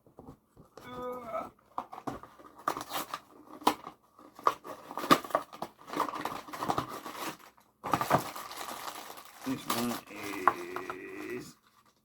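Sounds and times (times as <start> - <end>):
cardboard box and plastic bag opening: 0.9 - 12.0.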